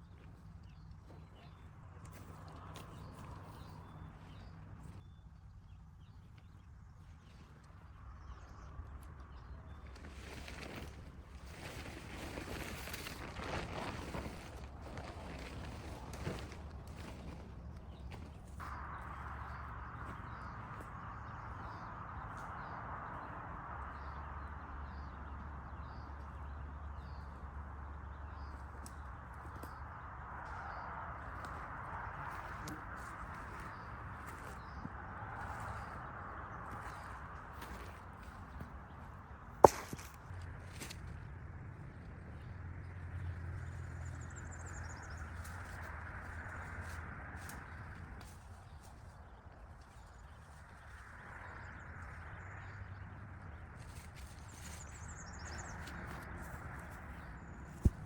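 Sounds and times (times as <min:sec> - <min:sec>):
steady low rumble: 0:00.0 - 0:58.0
rushing outdoor noise: 0:07.4 - 0:58.0.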